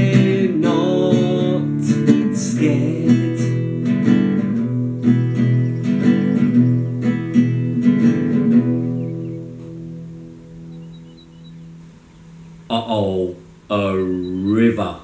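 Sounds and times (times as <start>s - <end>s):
acoustic guitar strumming: 0.0s - 14.2s.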